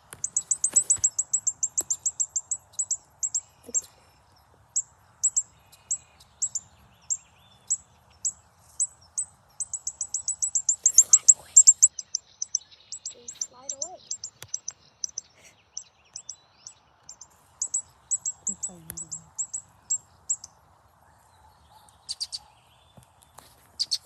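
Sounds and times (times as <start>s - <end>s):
bird chirps played back: 0.1s - 3.9s, 4.8s - 20.5s.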